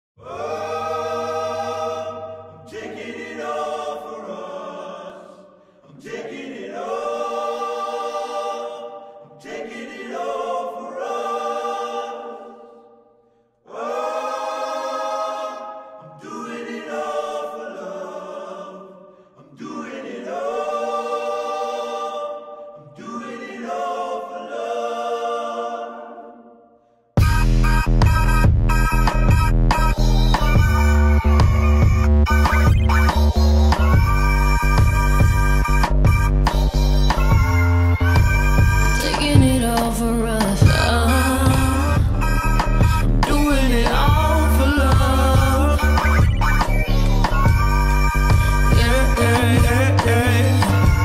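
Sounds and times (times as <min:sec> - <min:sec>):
a cappella choir harmonies: 0:00.2 - 0:51.0.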